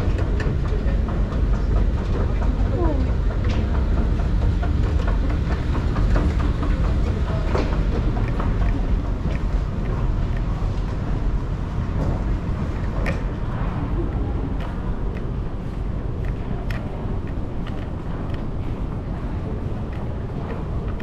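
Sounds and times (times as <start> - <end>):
subway train rumbling on rails: 0.0 - 21.0
wheels clicking and knocking: 0.0 - 21.0.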